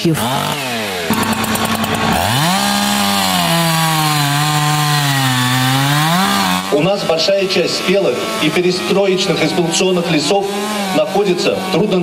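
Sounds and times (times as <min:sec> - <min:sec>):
chainsaw cutting log: 0:00.0 - 0:12.0.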